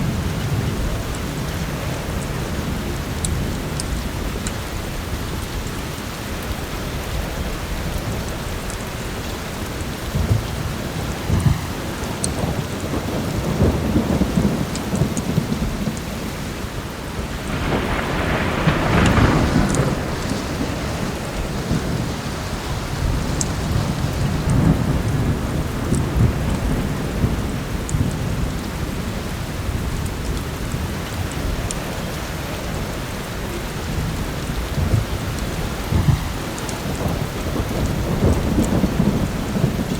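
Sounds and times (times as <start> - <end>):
heavy rain: 0.0 - 39.9
rolling thunder: 6.4 - 39.9.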